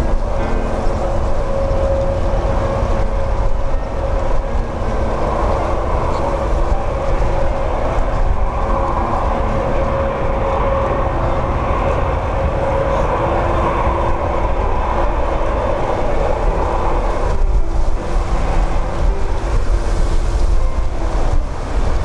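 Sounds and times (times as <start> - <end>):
jet engines whining: 0.0 - 22.0
wind rumbling on microphone: 0.0 - 22.0.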